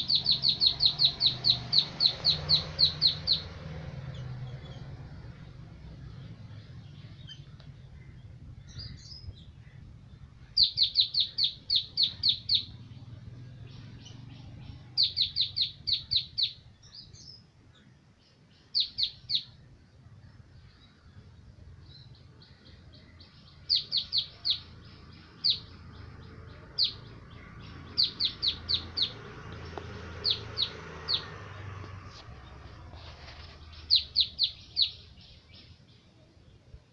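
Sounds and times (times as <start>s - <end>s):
bird sharp high chirps: 0.0s - 4.9s, 6.1s - 17.5s, 18.6s - 19.6s, 21.8s - 36.0s
faint low rumble: 0.0s - 36.9s.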